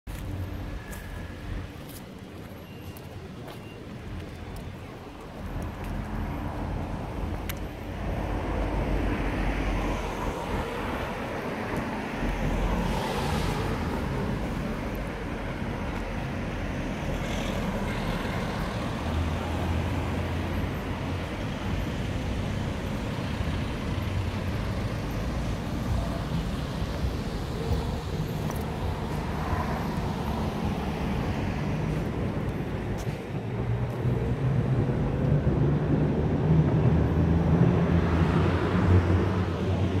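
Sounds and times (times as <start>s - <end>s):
cars driving past: 0.1s - 40.0s.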